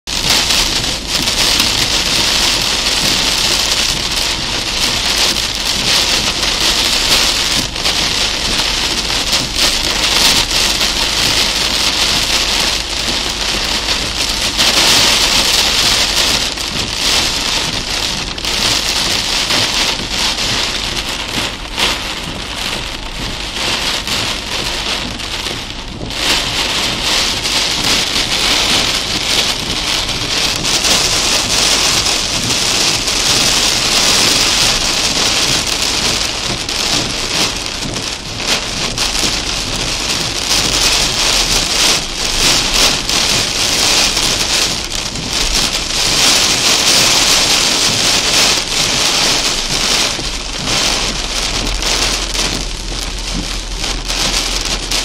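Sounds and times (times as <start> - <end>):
heavy rain on car roof: 0.0 - 55.0.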